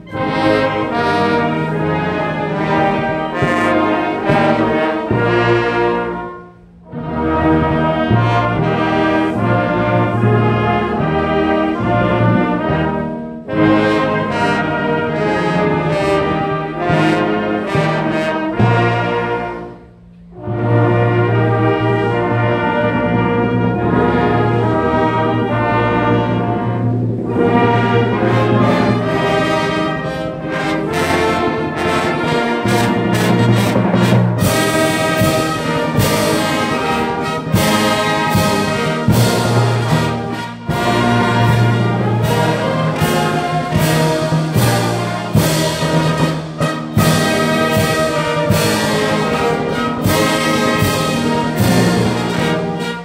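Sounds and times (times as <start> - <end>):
brass band playing slow chords: 0.0 - 53.0.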